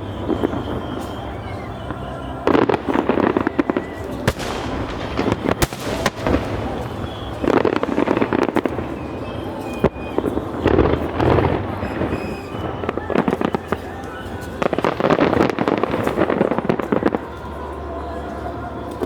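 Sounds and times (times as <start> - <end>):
fireworks crackling and popping: 0.0 - 17.4.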